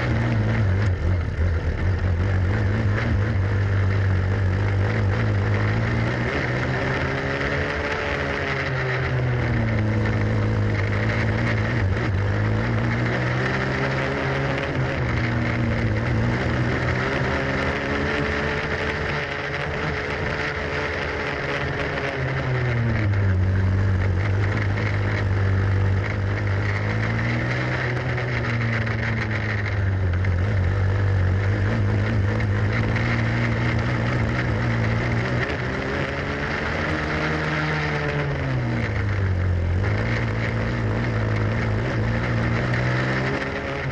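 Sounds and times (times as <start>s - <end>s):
kart engine at high revs: 0.0s - 43.9s.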